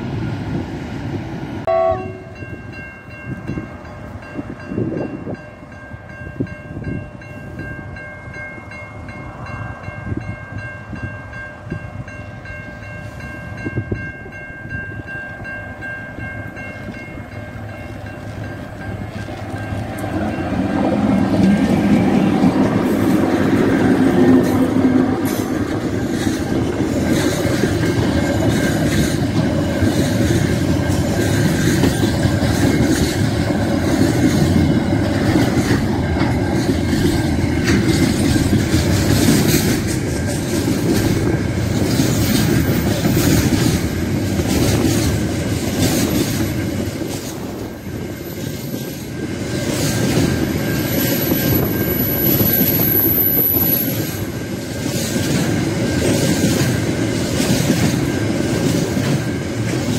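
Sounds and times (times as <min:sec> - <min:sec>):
freight train rumbling and clattering: 0:00.0 - 0:59.9
crossing alarm bells ringing: 0:01.7 - 0:45.7, 0:46.5 - 0:59.9.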